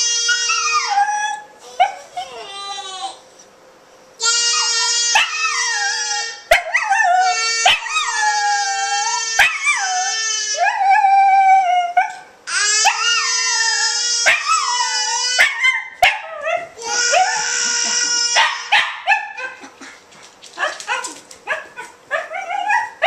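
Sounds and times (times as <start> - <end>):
dog howling and yipping: 0.0 - 2.5, 4.3 - 19.6, 20.6 - 23.0.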